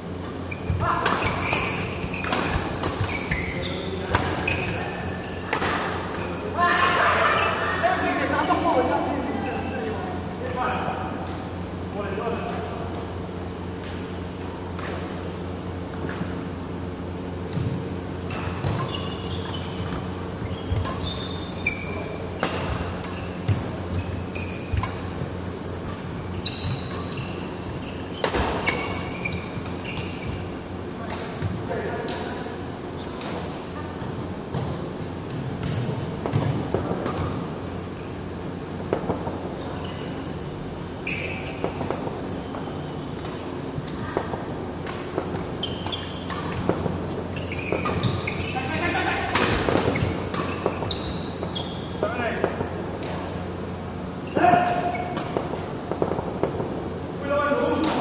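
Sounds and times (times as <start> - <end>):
low hum in hall: 0.0 - 58.0
shoes squeaking on floor: 0.1 - 10.0, 17.4 - 37.6, 39.5 - 52.4, 53.4 - 56.6, 57.2 - 58.0.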